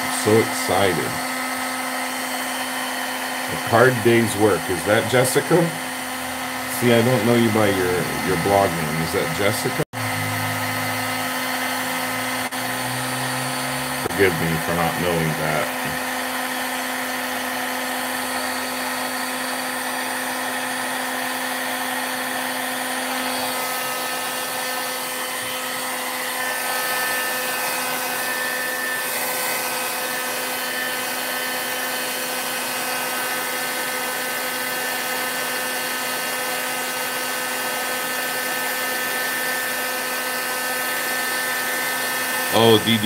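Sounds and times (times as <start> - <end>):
heat gun fan whining: 0.0 - 43.0.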